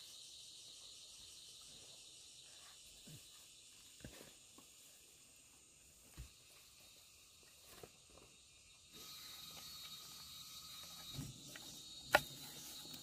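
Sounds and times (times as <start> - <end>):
faint insect chirring: 0.0 - 13.0.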